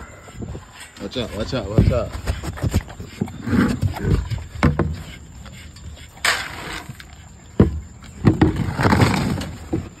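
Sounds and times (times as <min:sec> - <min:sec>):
dogs making low noises: 0:00.0 - 0:08.0.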